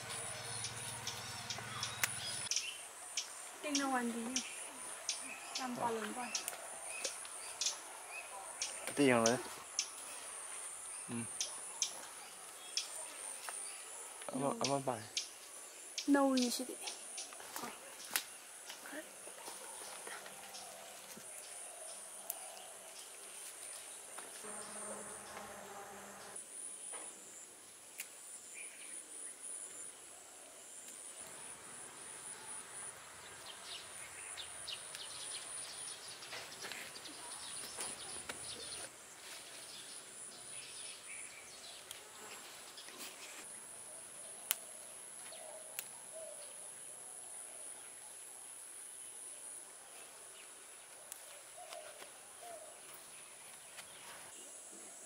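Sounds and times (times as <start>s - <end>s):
insects chirping: 0.0s - 51.8s.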